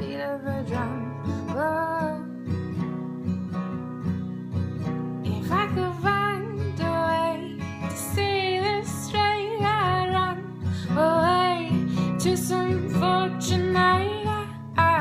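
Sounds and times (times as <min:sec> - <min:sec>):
woman singing: 0:00.0 - 0:02.6, 0:05.2 - 0:15.0
strummed acoustic guitar: 0:00.0 - 0:15.0.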